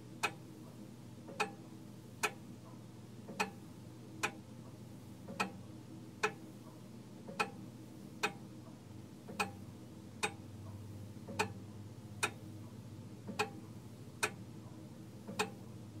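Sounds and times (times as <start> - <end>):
low steady hum: 0.0 - 16.0
mechanical clock ticking: 0.2 - 0.4, 1.3 - 3.6, 4.2 - 5.6, 6.2 - 7.6, 8.2 - 15.8.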